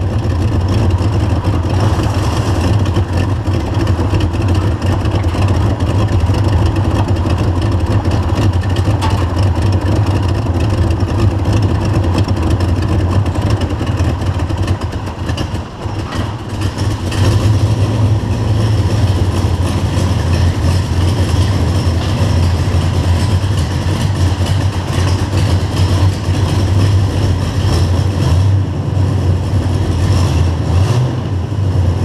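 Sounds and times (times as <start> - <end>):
car engine idling with misfire: 0.0 - 32.0.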